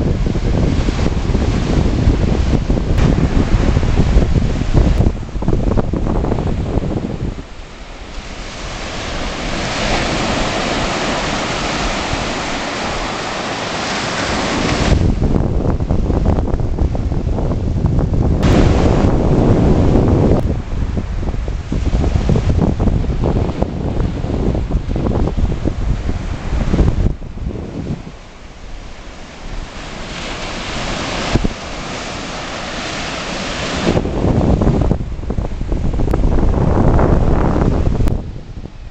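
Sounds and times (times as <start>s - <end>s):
surf washing up a beach: 0.0s - 38.9s
wind buffeting the microphone: 0.0s - 38.9s.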